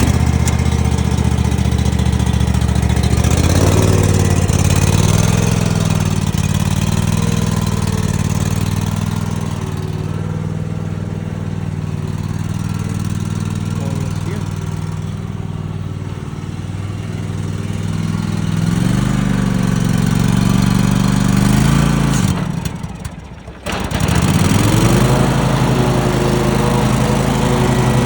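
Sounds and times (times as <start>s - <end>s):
lawn tractor engine running: 0.0s - 28.0s.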